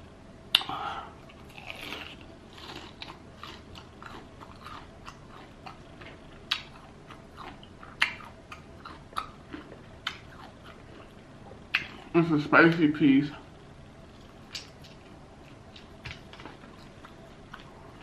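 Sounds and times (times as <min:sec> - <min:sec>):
chewing crunchy fried chicken: 0:00.6 - 0:12.2, 0:14.1 - 0:18.0.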